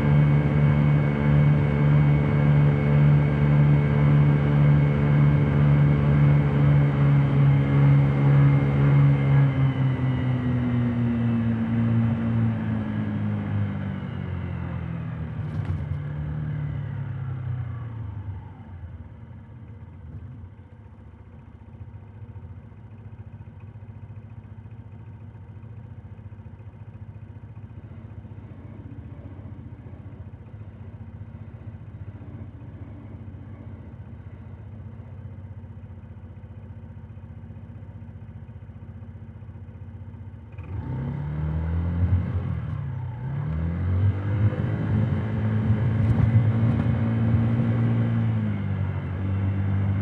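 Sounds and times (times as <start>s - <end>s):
muffled scooter engine running: 0.0s - 50.0s.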